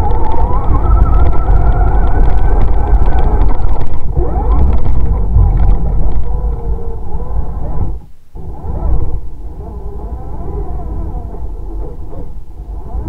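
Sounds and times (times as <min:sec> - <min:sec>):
rc car motor whining: 0:00.0 - 0:13.0
wheels rumbling on rough ground: 0:00.0 - 0:13.0.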